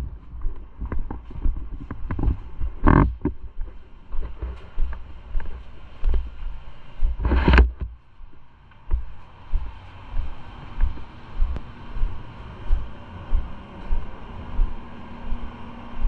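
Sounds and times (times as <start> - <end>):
footsteps indoors: 0.0 - 7.2, 7.8 - 16.0
low microphone rumble: 0.0 - 16.0.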